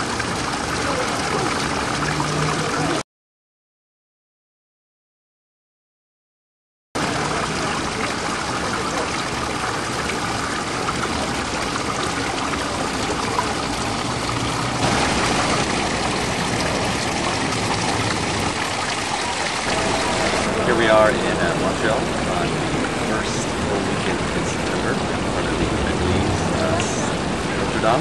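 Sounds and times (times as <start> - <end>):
fountain water splashing: 0.0 - 3.0, 7.0 - 28.0.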